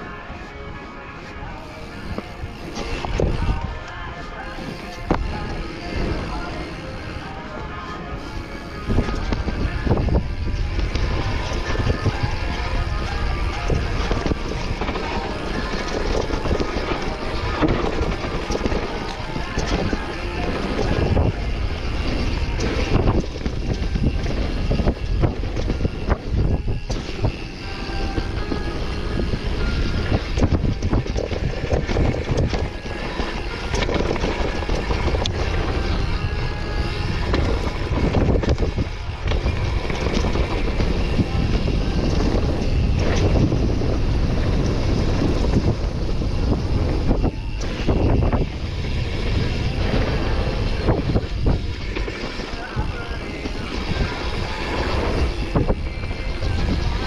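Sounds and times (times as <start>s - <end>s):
tyres rolling over dirt trail: 0.0s - 57.0s
wind buffeting microphone: 0.0s - 57.0s
bike frame clattering: 1.5s - 57.0s.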